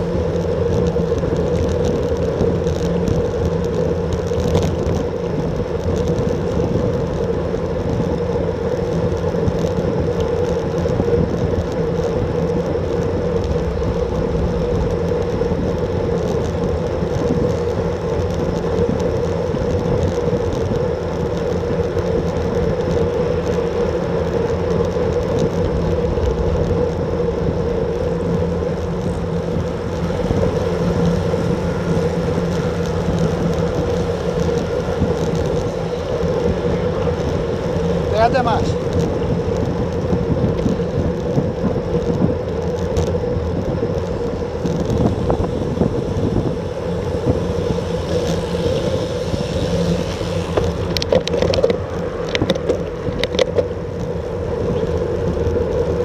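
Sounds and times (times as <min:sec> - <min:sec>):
tyre noise on road: 0:00.0 - 0:56.0
wind rush: 0:00.0 - 0:56.0.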